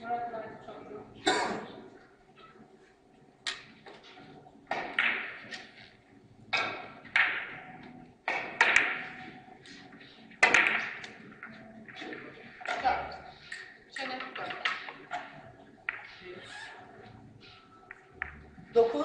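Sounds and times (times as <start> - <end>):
billiard balls clicking: 3.4 - 19.0.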